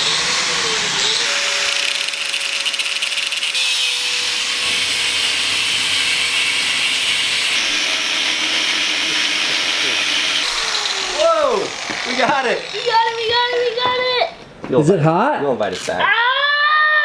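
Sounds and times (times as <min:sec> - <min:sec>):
angle grinder cutting metal: 0:00.0 - 0:14.3.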